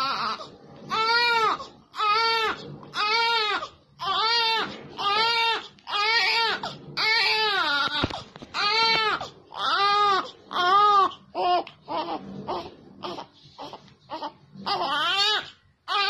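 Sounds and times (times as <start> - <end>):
newborn baby crying: 0.0 - 16.0.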